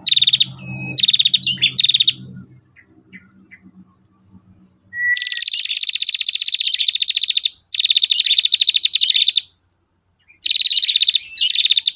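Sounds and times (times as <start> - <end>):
bird trilling: 0.0 - 9.6, 10.2 - 11.9.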